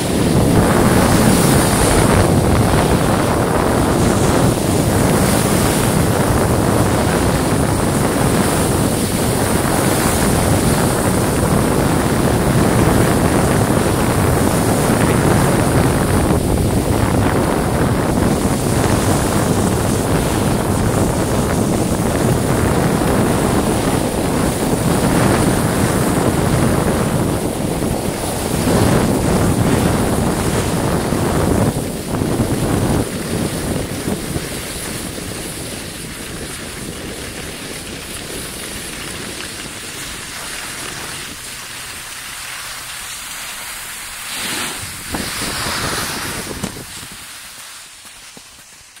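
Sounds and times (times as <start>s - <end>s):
snowboards sliding on snow: 0.0s - 49.0s
wind on microphone: 0.0s - 49.0s.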